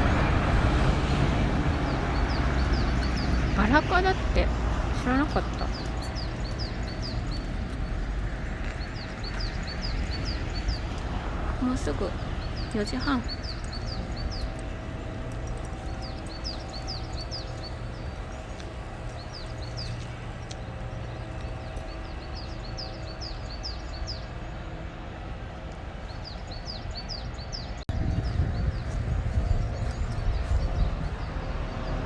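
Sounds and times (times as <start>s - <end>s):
songbird chirping: 0.8s - 31.4s.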